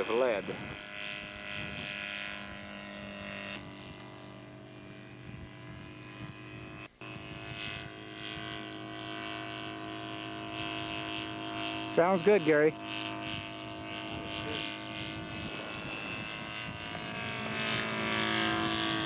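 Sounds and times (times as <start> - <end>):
model plane engine running: 0.0 - 19.0.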